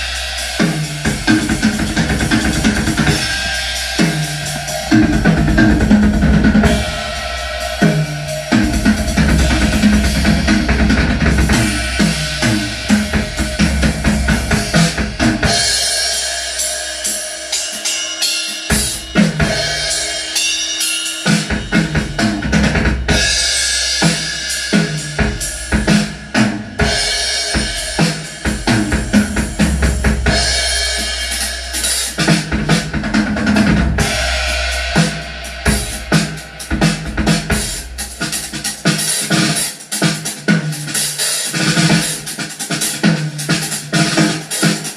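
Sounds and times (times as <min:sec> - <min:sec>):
loud drum-heavy music with bass: 0:00.0 - 0:44.9.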